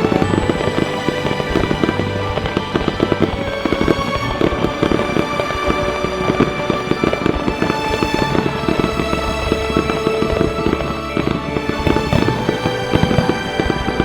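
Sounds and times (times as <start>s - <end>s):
background music with held tones: 0.0s - 14.0s.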